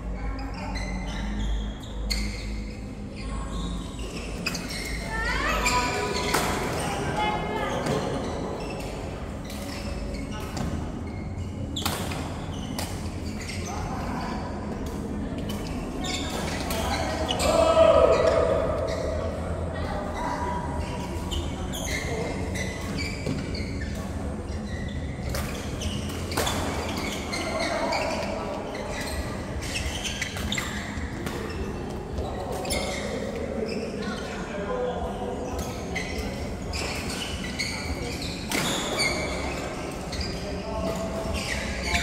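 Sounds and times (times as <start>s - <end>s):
players' voices: 0.0s - 11.8s, 12.4s - 42.0s
shoes squeaking on floor: 0.2s - 42.0s.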